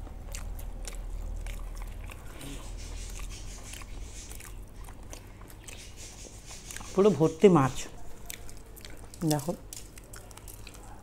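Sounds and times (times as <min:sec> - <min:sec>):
person chewing food: 0:00.0 - 0:07.1, 0:07.8 - 0:11.0.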